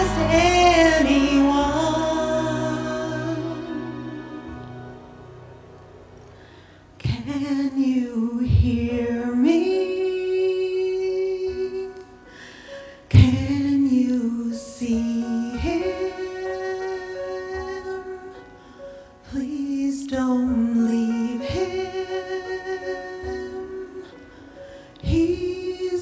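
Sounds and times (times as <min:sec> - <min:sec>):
woman singing into microphone: 0:00.0 - 0:05.1, 0:07.0 - 0:12.1, 0:13.1 - 0:18.5, 0:19.2 - 0:24.2, 0:25.0 - 0:26.0
soft instrumental accompaniment: 0:00.0 - 0:26.0.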